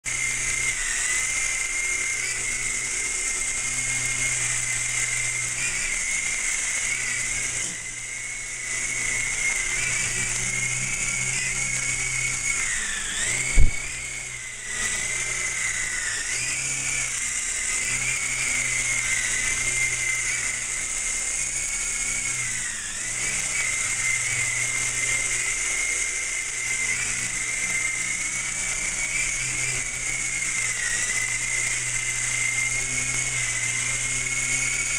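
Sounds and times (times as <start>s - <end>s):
model helicopter motor whine: 0.0s - 34.9s.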